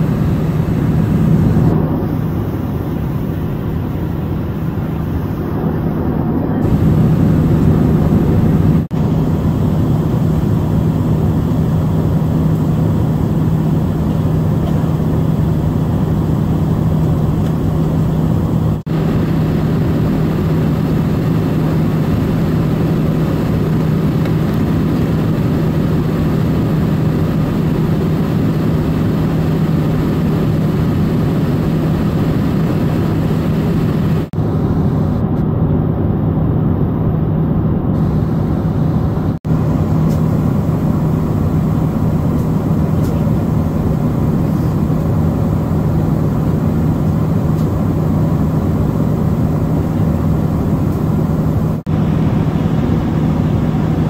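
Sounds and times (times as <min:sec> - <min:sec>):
airplane cabin engine roar: 0:00.0 - 0:54.0
constant low hum: 0:00.0 - 0:54.0.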